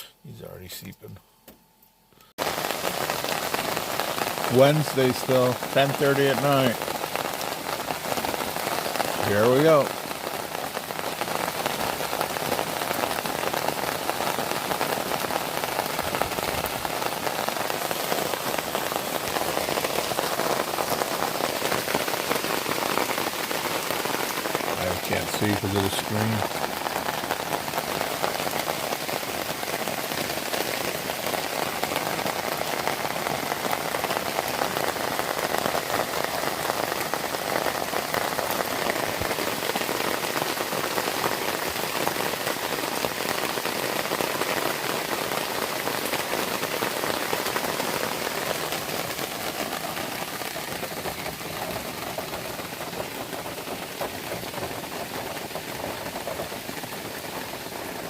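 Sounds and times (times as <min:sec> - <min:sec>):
rain pattering on surfaces: 0:02.2 - 0:58.0.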